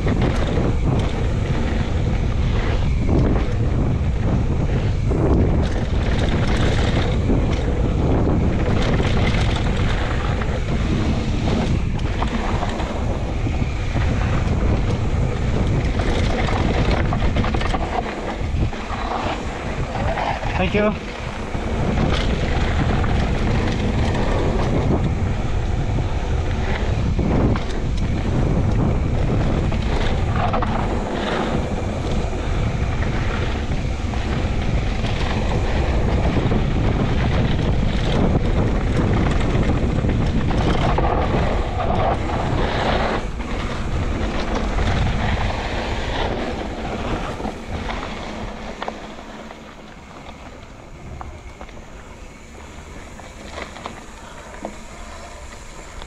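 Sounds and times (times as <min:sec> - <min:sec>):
bike knocks and rattles: 0:00.0 - 0:56.0
tyre noise on dirt: 0:00.0 - 0:56.0
wind buffeting microphone: 0:00.0 - 0:56.0.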